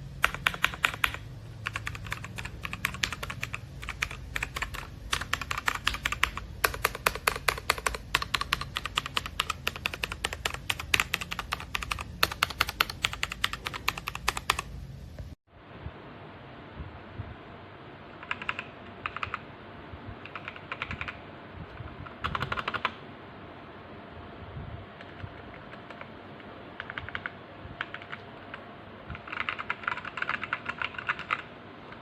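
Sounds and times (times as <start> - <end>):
steady background hiss: 0.0 - 32.0.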